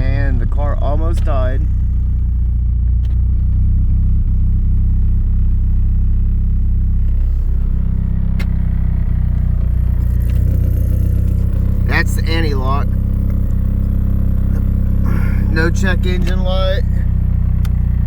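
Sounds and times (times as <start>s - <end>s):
car engine running roughly: 0.0s - 18.0s.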